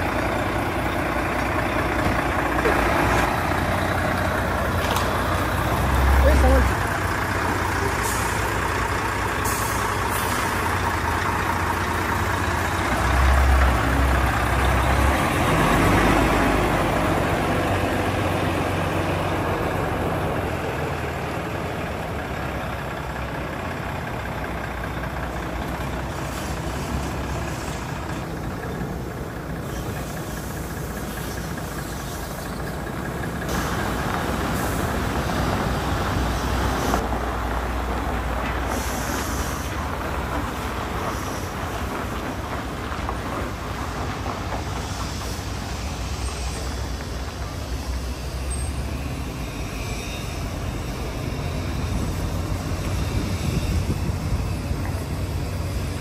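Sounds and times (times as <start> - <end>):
heavy diesel truck engine: 0.0 - 56.0.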